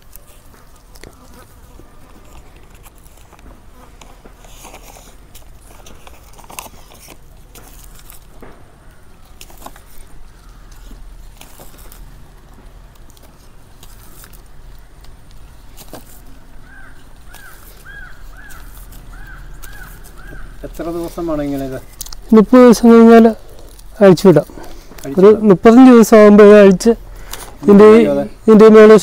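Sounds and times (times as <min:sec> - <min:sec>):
plastic tape crinkling: 0:00.0 - 0:27.7.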